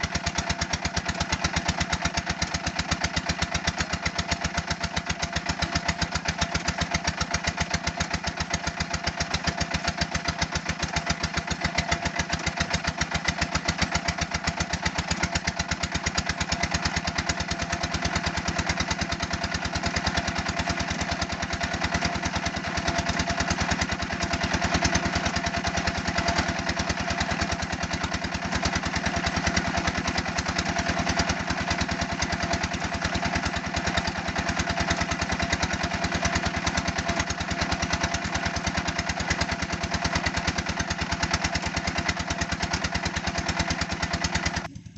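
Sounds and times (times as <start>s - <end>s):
brick press machine running: 0.0s - 44.9s.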